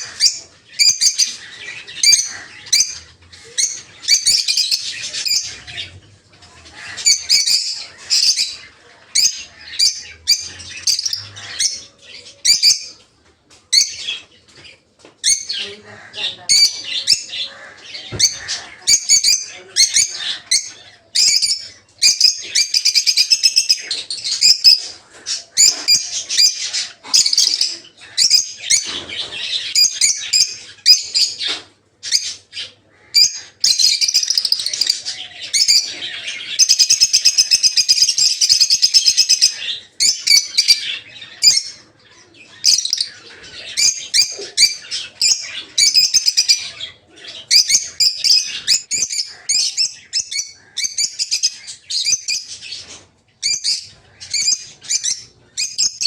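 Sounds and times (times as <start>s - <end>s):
lovebirds chattering: 0.0s - 56.0s.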